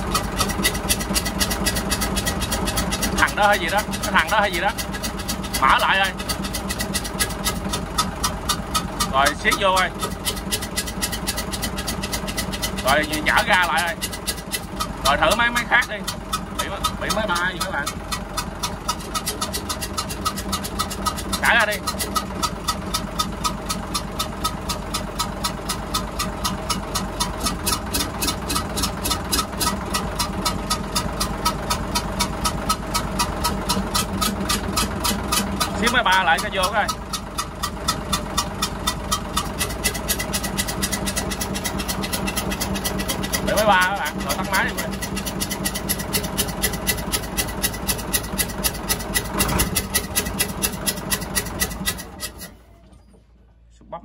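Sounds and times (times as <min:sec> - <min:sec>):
sharp regular engine ticking: 0:00.0 - 0:52.9
diesel engine idling: 0:00.0 - 0:54.0.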